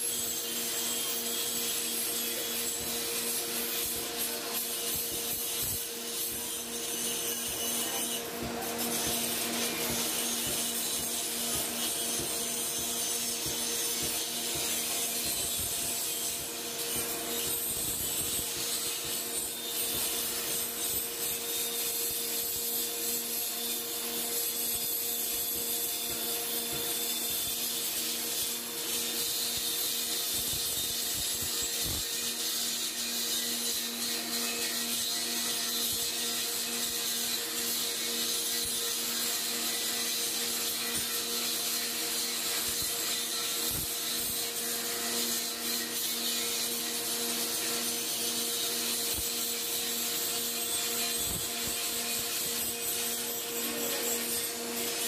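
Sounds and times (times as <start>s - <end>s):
grinder running: 0.0s - 55.0s.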